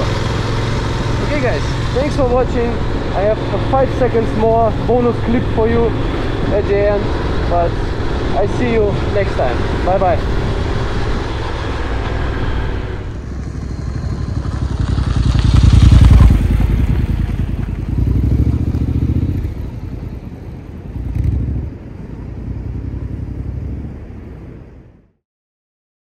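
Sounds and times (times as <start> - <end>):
motorcycle engine running: 0.0 - 8.3, 9.0 - 24.5.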